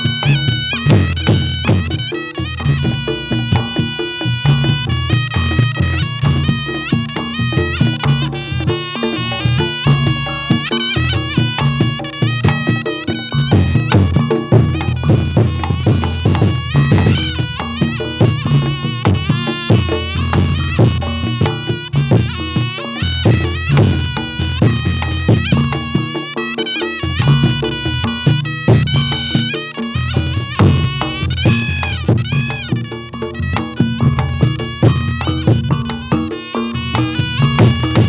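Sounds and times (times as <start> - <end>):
drum strokes: 0.0 - 38.0
shawm playing reedy melody: 0.0 - 38.0.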